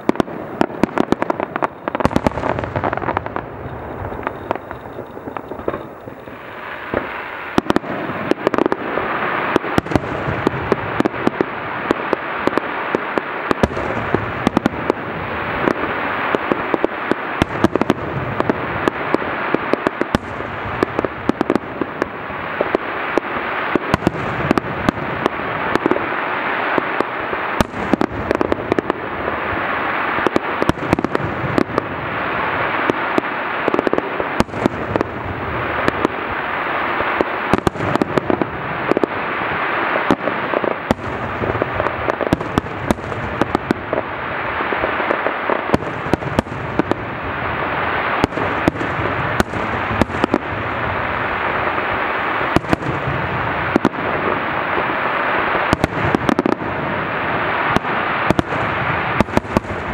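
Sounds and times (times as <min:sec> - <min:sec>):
crackling hiss: 0:00.0 - 0:59.9
fireworks popping and banging: 0:00.0 - 0:59.9.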